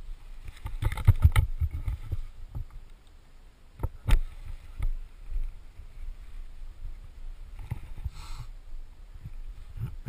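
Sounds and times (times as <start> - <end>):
wind rumble on microphone: 0.0 - 2.9, 3.7 - 10.0.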